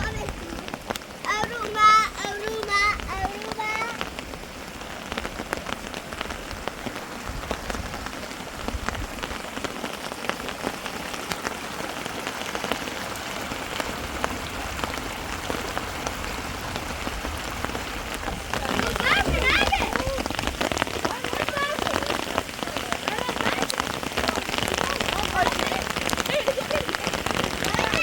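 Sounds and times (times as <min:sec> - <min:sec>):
heavy rain on hard surface: 0:00.0 - 0:28.0.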